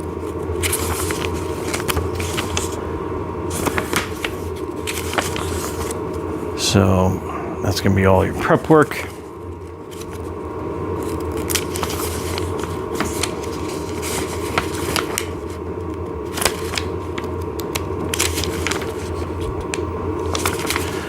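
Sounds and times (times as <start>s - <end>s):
paper sheets rustling: 0.0s - 2.9s, 3.5s - 6.5s, 8.0s - 21.0s.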